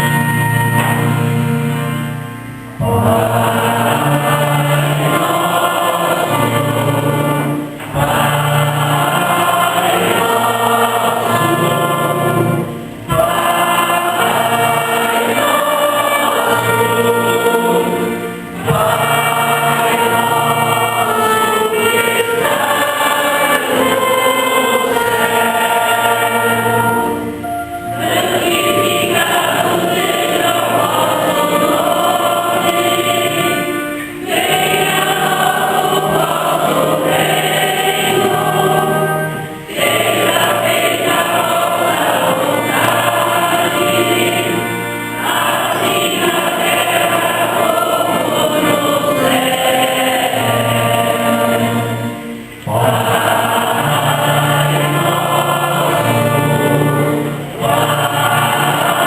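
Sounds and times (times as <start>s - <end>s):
church choir singing a hymn: 0.0s - 59.0s.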